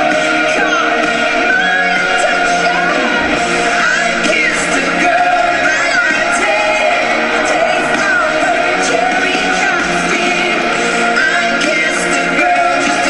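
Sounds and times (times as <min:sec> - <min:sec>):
crowd shouts and whoops: 0:00.0 - 0:13.0
live pop music: 0:00.0 - 0:13.0
person singing: 0:00.0 - 0:13.0.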